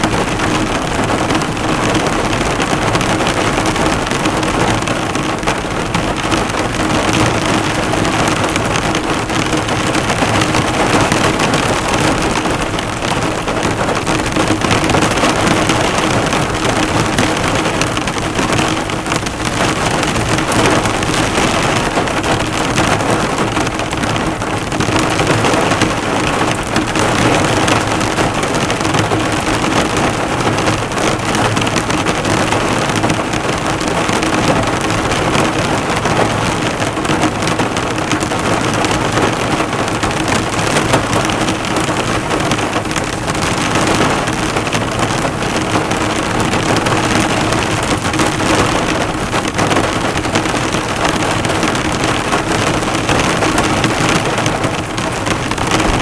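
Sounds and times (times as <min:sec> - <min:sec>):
heavy rain on car metal: 0:00.0 - 0:56.0.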